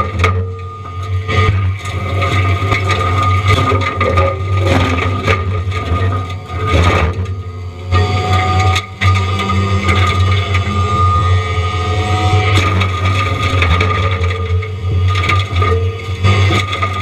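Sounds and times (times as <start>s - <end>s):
engine droning with whine: 0.0s - 17.0s
mulcher drum crunching wood: 0.0s - 17.0s.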